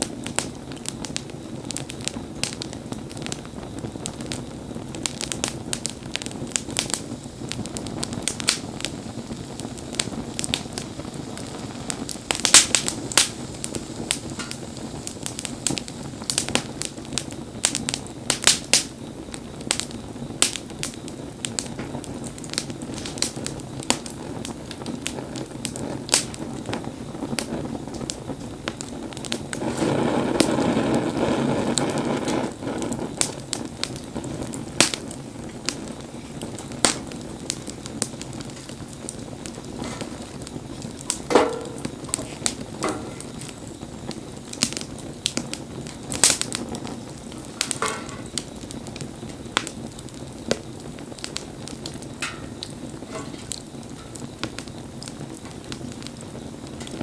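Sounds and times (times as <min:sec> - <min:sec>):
low rush of burning: 0:00.0 - 0:57.0
wood fire crackling and popping: 0:00.0 - 0:57.0.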